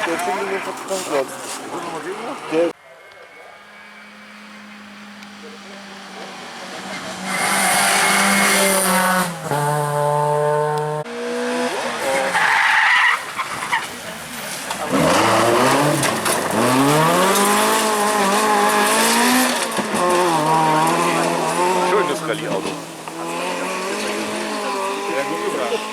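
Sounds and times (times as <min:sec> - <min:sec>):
rally car engine revving: 0:03.6 - 0:12.6, 0:13.4 - 0:25.9.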